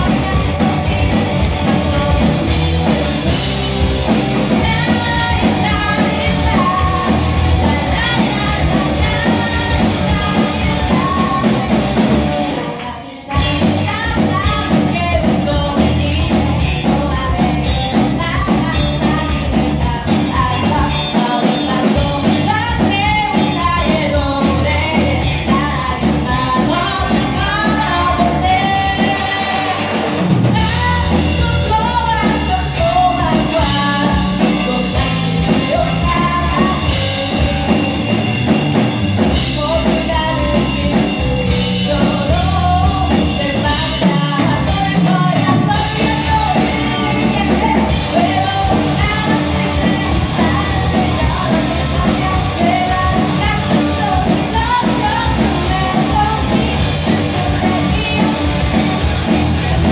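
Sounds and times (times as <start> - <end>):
bass guitar: 0.0 - 59.9
drum kit: 0.0 - 59.9
electric guitar: 0.0 - 59.9
woman singing lead: 0.0 - 59.9.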